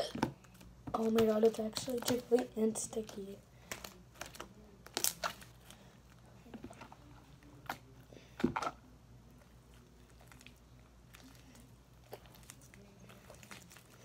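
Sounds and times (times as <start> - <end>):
slime squelching: 0.0 - 14.0.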